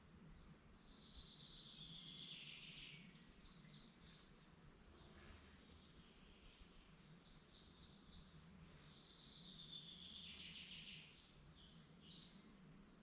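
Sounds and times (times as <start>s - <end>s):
faint low hum: 0.0s - 13.0s
birds singing: 0.4s - 13.0s.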